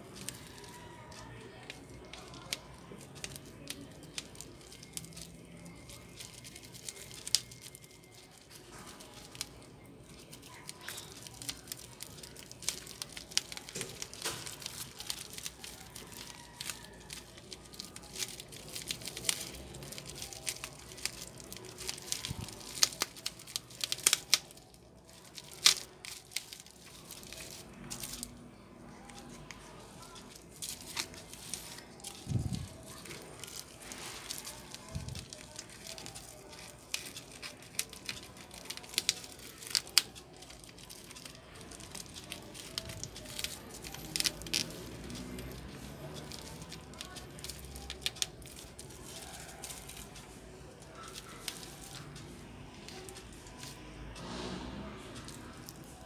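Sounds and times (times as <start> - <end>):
bubble wrap crinkling: 0.0 - 56.0.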